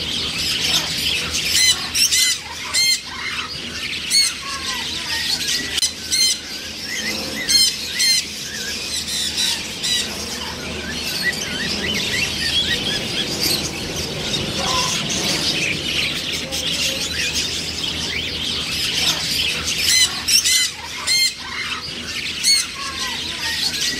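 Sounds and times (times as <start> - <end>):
chatter of bird calls: 0.0 - 23.9
macaws squawking: 0.0 - 23.9.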